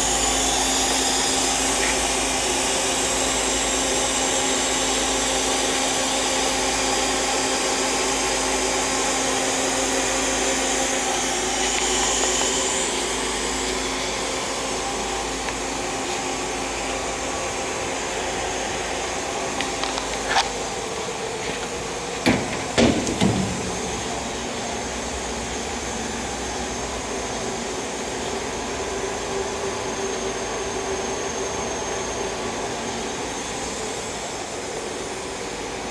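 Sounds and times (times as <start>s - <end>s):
machining center whirring: 0.0s - 35.9s.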